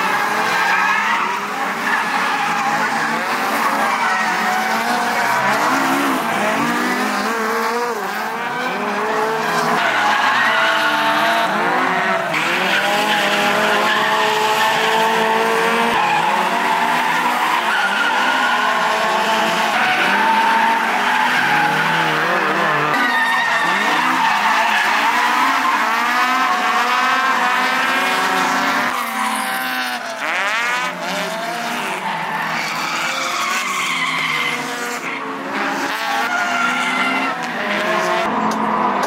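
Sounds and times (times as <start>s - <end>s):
car engines revving: 0.0s - 39.0s
tyres skidding: 0.0s - 39.0s.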